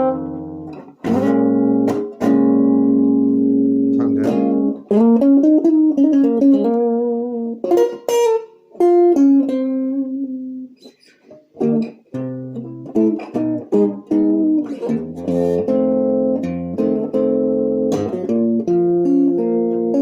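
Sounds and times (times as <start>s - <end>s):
clean electric guitar jazz: 0.0s - 20.0s.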